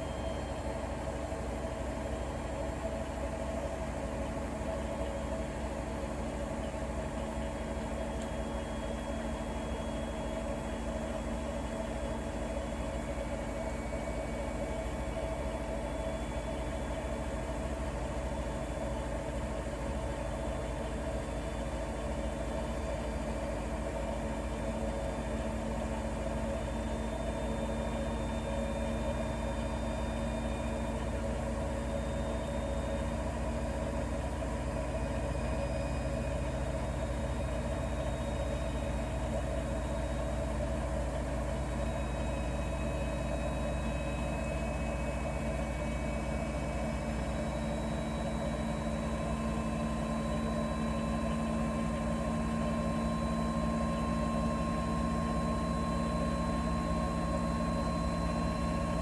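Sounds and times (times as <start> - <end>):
washing machine motor hum: 10.4 - 59.0.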